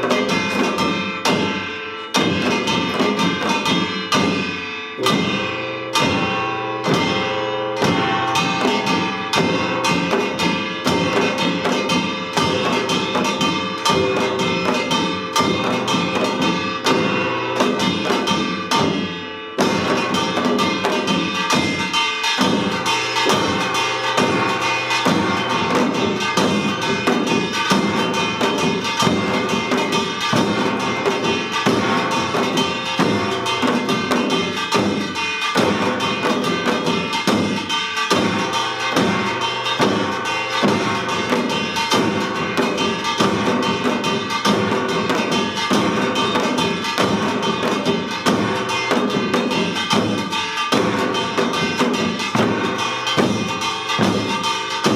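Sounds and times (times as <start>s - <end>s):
hourglass drums and barrel drums: 0.0s - 54.9s
metal percussion ringing: 0.0s - 54.9s.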